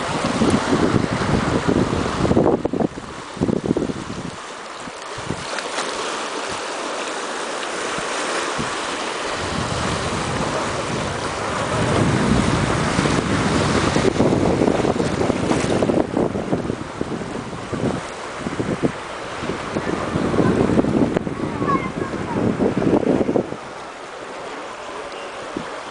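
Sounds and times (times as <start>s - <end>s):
wind rumble on microphone: 0.0s - 5.5s, 7.9s - 24.1s
waves breaking against rocks: 0.0s - 25.9s.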